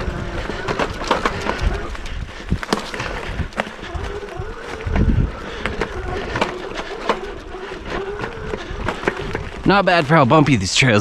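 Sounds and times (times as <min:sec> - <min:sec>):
bike knocks and rattles: 0:00.0 - 0:09.9
wind buffeting microphone: 0:00.0 - 0:10.1
tyre rumble: 0:00.0 - 0:10.5.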